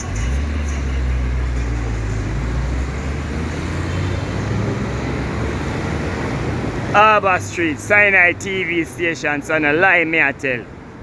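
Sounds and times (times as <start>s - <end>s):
vehicle engine running: 0.0s - 9.1s
street traffic noise: 0.0s - 11.0s.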